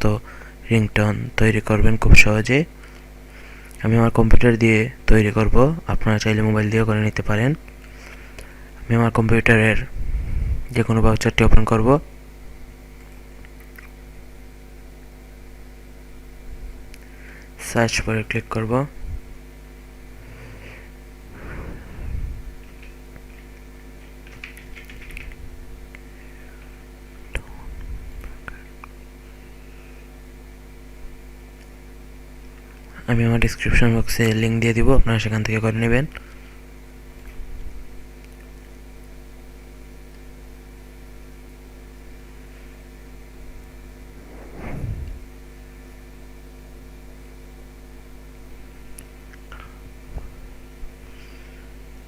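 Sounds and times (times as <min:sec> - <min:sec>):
low electrical mains hum: 0:00.0 - 0:52.0.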